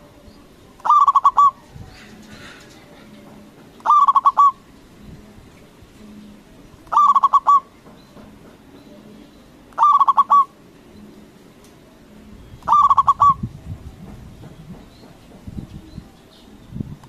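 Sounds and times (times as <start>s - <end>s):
dove cooing: 0.0s - 14.1s.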